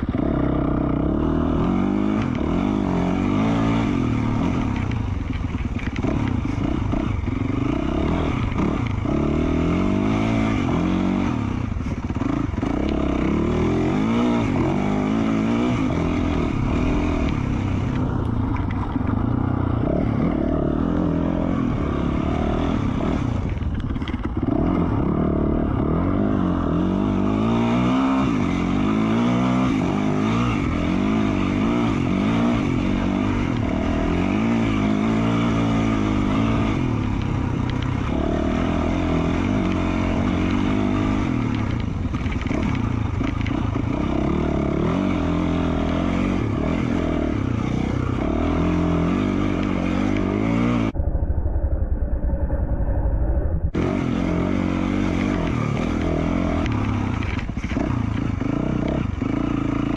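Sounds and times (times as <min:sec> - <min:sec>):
dirt bike engine revving: 0:00.0 - 0:52.4, 0:53.6 - 0:59.9.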